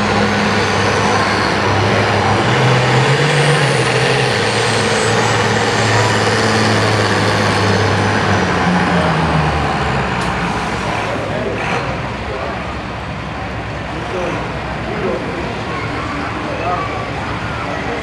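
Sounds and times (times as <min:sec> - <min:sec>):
tractor diesel engine droning: 0:00.0 - 0:18.0.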